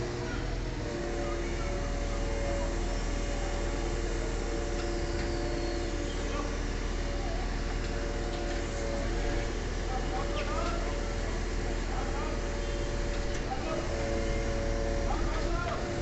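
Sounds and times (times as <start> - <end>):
steady whine: 0.0 - 16.0
truck engine rumbling: 0.0 - 16.0.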